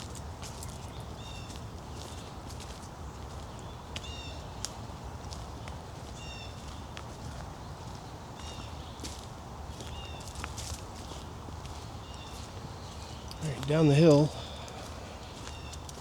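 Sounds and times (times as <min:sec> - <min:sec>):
footsteps on woodland trail: 0:00.0 - 0:16.0.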